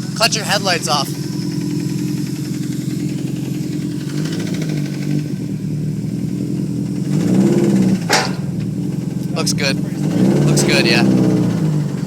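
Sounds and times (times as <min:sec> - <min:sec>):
car engine revving: 0:00.0 - 0:12.0
car engine running with knocking: 0:00.0 - 0:12.0.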